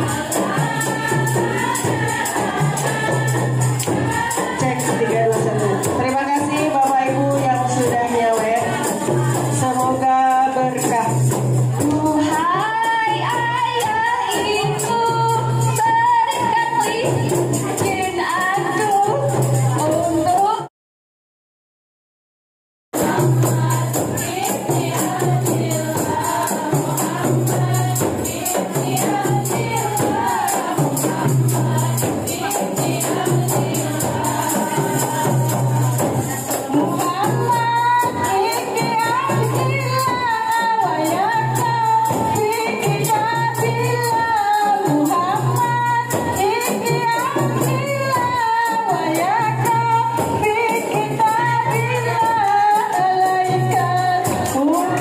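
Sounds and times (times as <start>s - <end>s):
frame drums beating: 0.0s - 20.3s, 23.0s - 55.0s
jingling tambourines: 0.0s - 20.7s, 23.0s - 55.0s
lead female voice singing: 0.0s - 20.7s, 23.0s - 55.0s
women singing through a pa: 0.0s - 20.7s, 23.0s - 55.0s.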